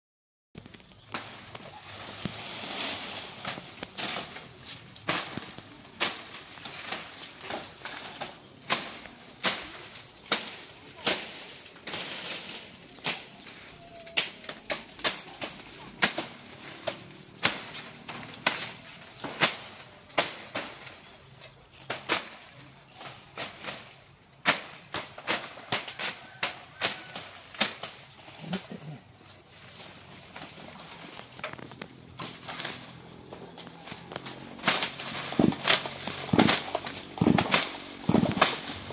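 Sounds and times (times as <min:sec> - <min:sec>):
palm fronds swishing and crackling: 0:00.6 - 0:38.9.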